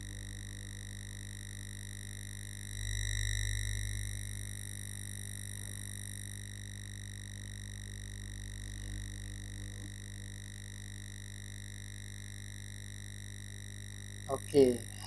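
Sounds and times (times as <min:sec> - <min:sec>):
electrical hum with whine: 0:00.0 - 0:15.0.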